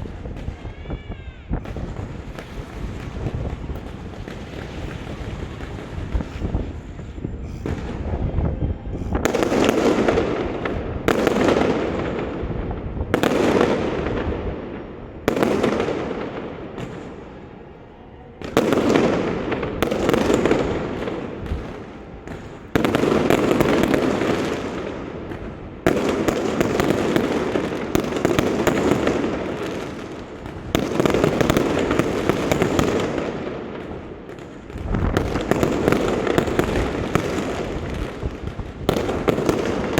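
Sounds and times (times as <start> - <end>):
fireworks bangs and crackle: 0.0 - 17.7, 18.3 - 39.9.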